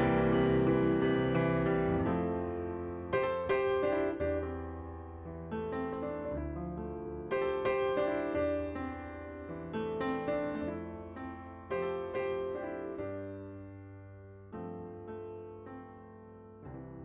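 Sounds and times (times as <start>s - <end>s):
gentle solo piano chords: 0.0s - 17.0s.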